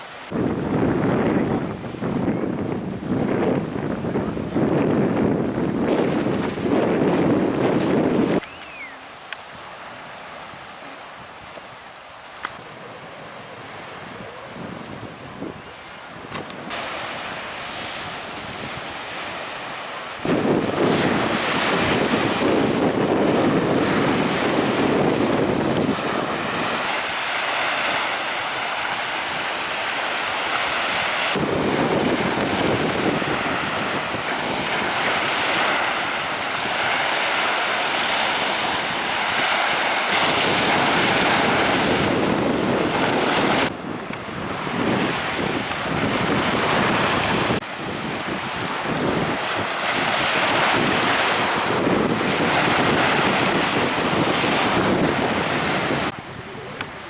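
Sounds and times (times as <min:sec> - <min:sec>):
waves splashing: 0:00.0 - 0:57.0
wind rushing over microphone: 0:00.0 - 0:57.0.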